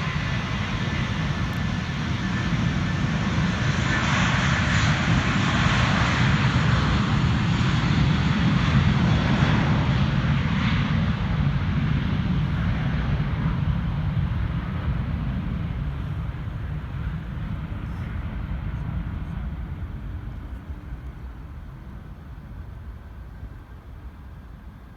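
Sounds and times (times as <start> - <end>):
jet airliner engines passing: 0.0 - 24.9.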